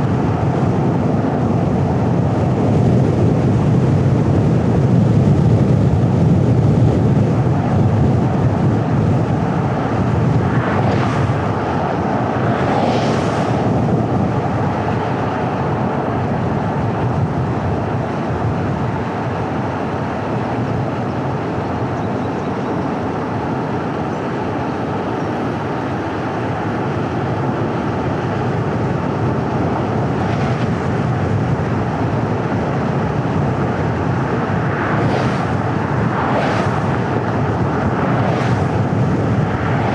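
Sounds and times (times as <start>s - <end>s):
car road rumble: 0.1s - 39.9s.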